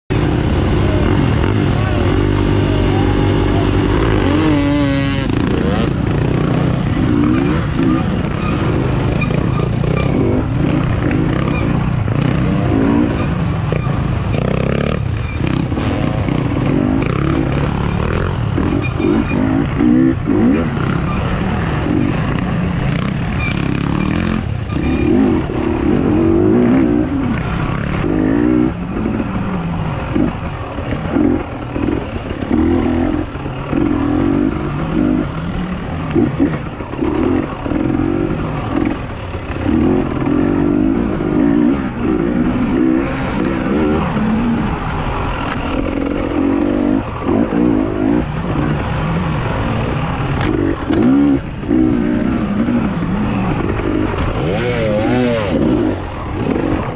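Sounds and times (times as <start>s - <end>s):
dirt bike engine revving: 0.1s - 56.9s.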